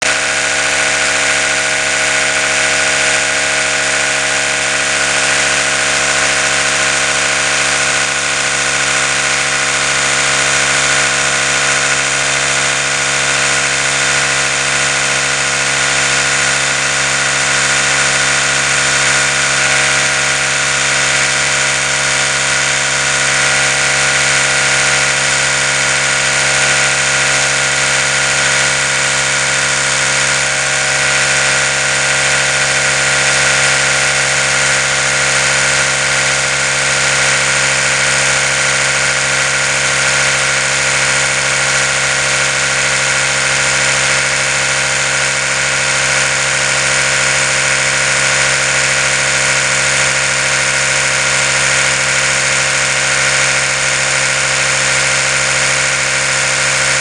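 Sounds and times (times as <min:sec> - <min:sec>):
electric toothbrush buzzing: 0:00.0 - 0:57.0.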